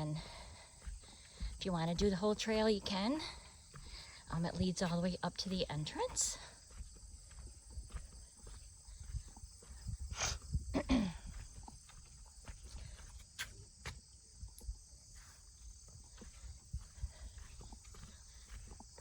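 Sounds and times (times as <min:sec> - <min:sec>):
crickets chirping: 0:00.0 - 0:19.0
footsteps on trail: 0:00.0 - 0:19.0.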